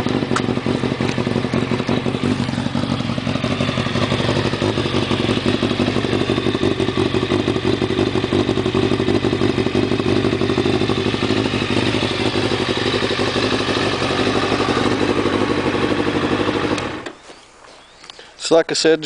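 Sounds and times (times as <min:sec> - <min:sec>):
motorcycle engine idling: 0:00.0 - 0:17.3.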